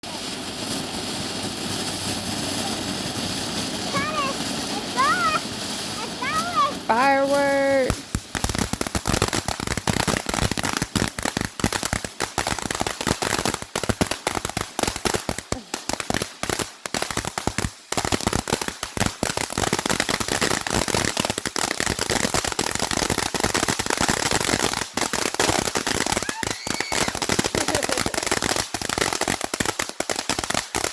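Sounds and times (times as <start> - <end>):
fireworks crackling and popping: 0.0 - 30.9.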